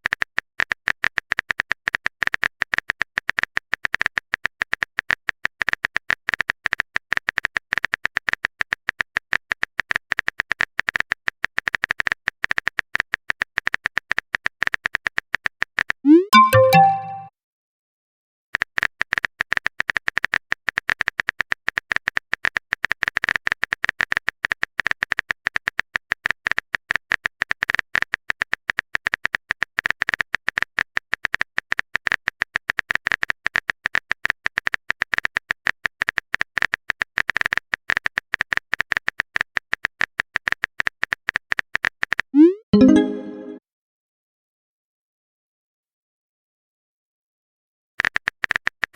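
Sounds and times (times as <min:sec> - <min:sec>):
rapid keyboard clicks: 0:00.0 - 0:16.0, 0:18.6 - 0:42.3, 0:48.0 - 0:48.9.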